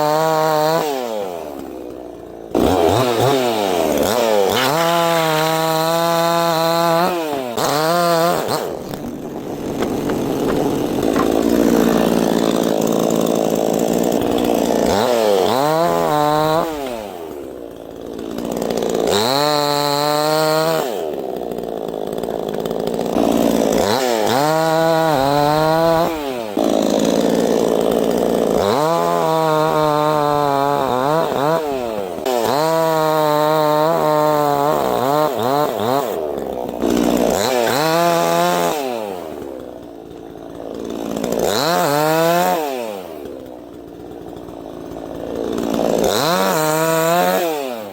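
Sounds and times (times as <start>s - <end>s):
chainsaw cutting through wood: 0.0s - 47.9s
chainsaw revving: 0.0s - 47.9s.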